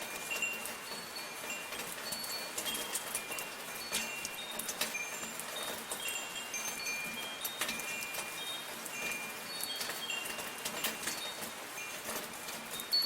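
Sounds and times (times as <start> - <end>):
sharp drips: 0.0 - 13.0
soft rain falling: 0.0 - 13.0
wind chimes ringing: 0.0 - 13.0.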